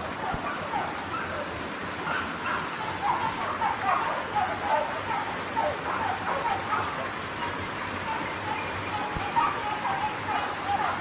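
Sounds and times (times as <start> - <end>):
hounds baying: 0.2 - 1.5, 2.1 - 11.0.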